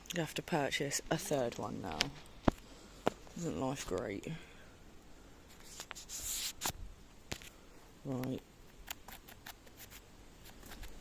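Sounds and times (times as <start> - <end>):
rustling undergrowth: 0.0 - 11.0.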